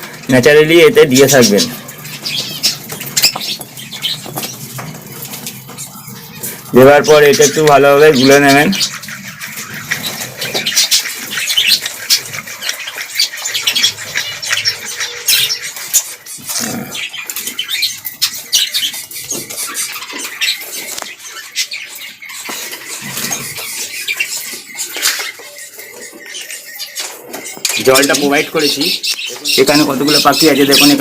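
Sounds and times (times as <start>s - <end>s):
budgerigars chirping: 0.0s - 31.0s.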